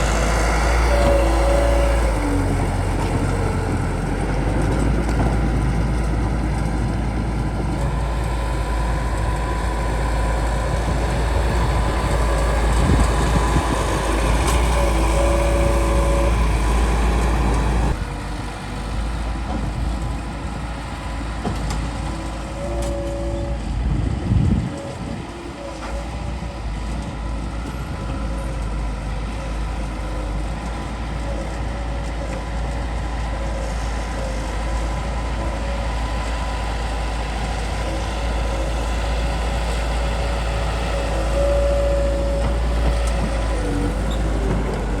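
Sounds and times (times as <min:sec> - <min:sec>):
diesel engine rumbling: 0:00.0 - 0:45.0
steady engine whine: 0:00.0 - 0:45.0.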